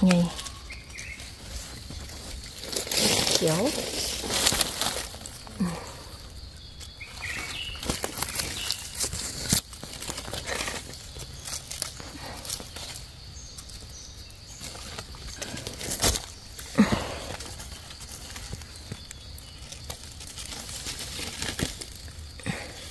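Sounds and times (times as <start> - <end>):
dry leaves rustling and crackling: 0.0 - 22.9
twig clicks: 0.0 - 22.9.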